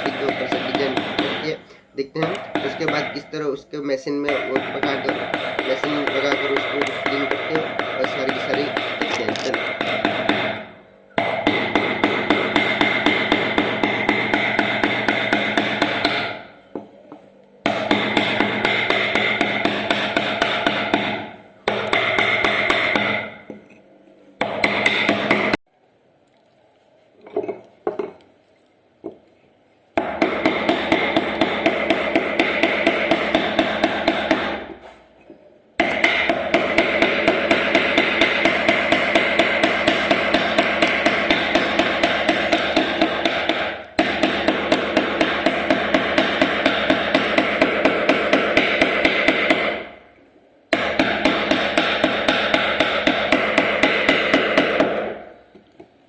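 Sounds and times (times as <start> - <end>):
hammer tapping chisel into wood: 0.0 - 16.9, 17.7 - 23.8, 30.0 - 34.8, 35.8 - 49.9, 50.7 - 55.9.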